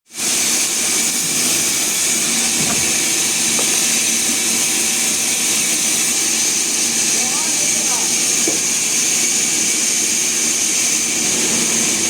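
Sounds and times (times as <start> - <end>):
sawmill machinery hissing: 0.1 - 12.0.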